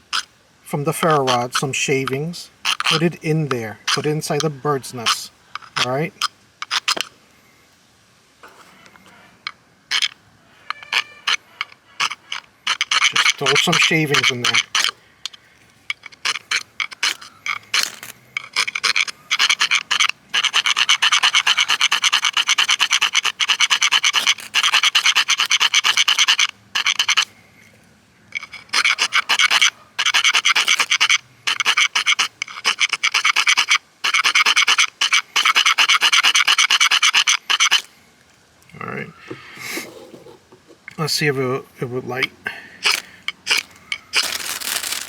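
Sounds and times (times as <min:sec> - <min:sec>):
ferrocerium rod scraping: 0:00.0 - 0:07.2, 0:08.4 - 0:27.3, 0:28.3 - 0:37.9, 0:39.6 - 0:40.7, 0:42.8 - 0:45.0.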